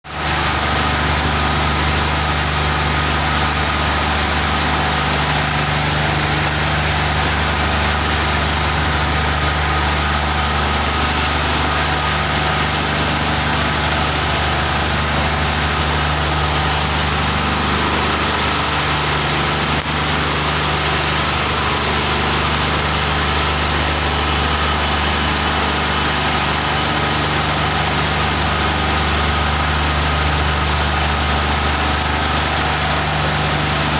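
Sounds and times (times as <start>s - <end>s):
low machine hum: 0.1s - 33.9s.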